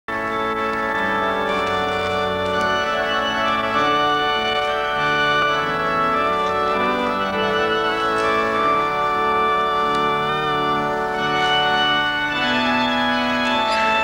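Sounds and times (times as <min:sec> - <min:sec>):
organ playing held chords: 0:00.1 - 0:14.0.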